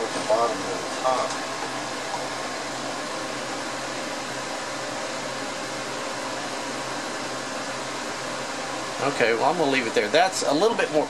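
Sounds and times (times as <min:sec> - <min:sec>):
fan noise: 0:00.0 - 0:11.0.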